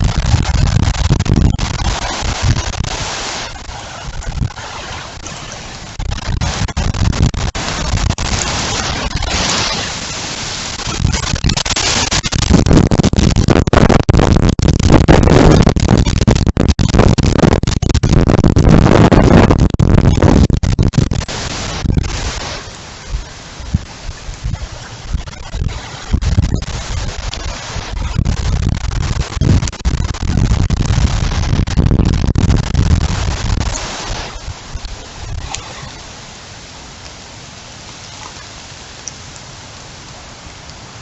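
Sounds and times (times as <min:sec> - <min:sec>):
storm wind buffeting microphone: 0:00.0 - 0:36.3.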